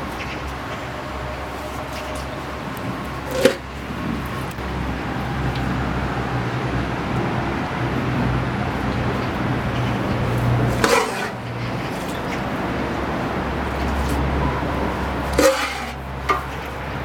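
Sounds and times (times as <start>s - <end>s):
wood fire rumbling: 0.0s - 17.0s.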